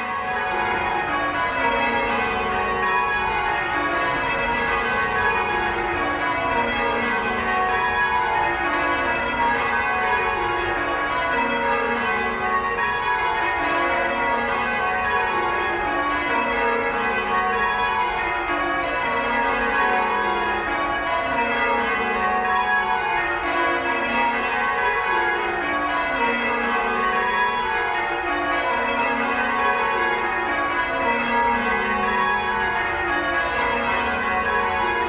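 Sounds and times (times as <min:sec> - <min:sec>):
church bells change ringing: 0:00.0 - 0:35.0.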